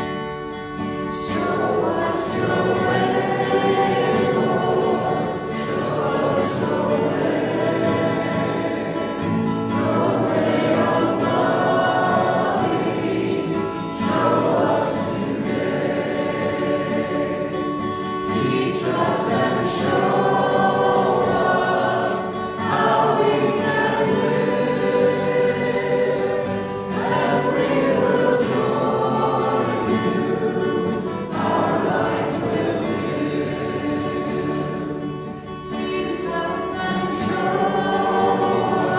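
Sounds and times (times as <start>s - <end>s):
congregation singing a hymn: 0.0s - 38.9s
hymn accompaniment: 1.1s - 38.9s.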